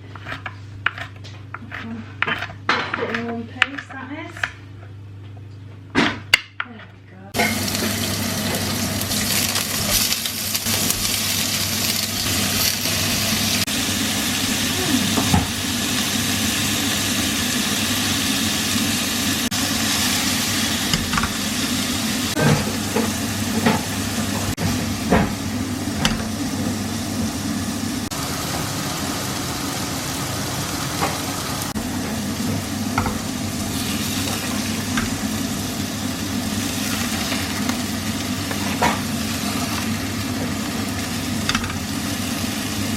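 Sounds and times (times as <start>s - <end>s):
food sizzling in a pan: 7.4s - 42.9s.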